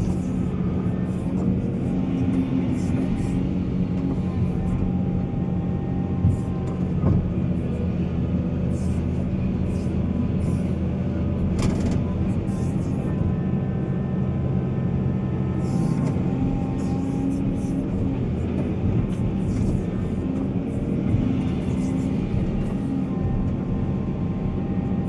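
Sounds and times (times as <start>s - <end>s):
heavy diesel engine running: 0.0s - 25.0s
thin whine: 0.0s - 25.0s.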